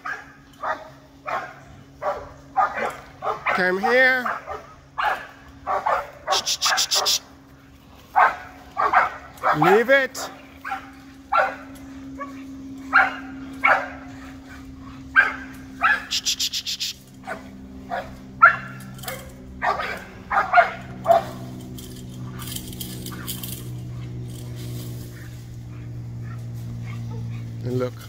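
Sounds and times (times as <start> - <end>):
dogs barking: 0.0 - 28.0.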